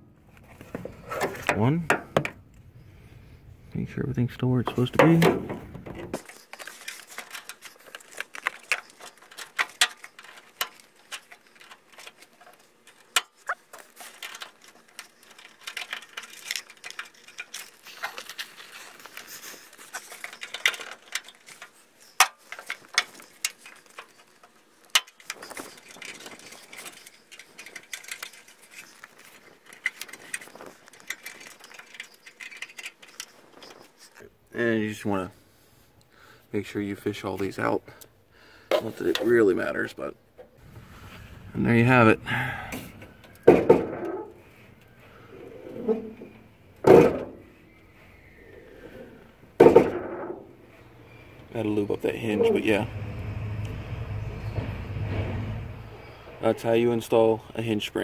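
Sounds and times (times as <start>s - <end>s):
hands handling car parts: 0.1s - 34.5s, 35.2s - 54.6s.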